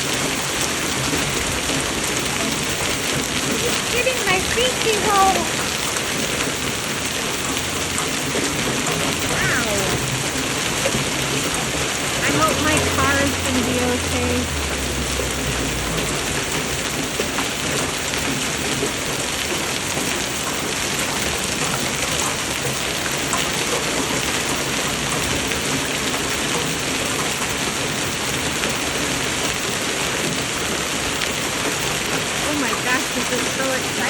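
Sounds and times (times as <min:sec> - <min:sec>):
hail and rain pelting down: 0:00.0 - 0:34.0.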